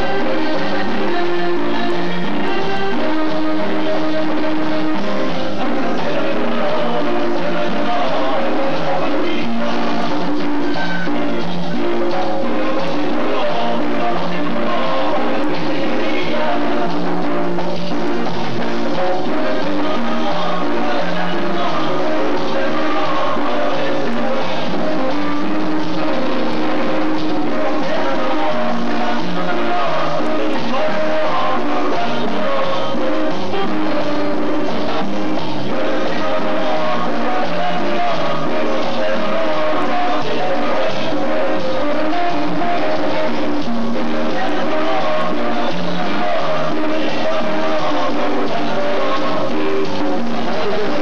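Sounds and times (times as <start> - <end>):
electric guitar: 0.0 - 51.0
loud music with singing: 0.0 - 51.0.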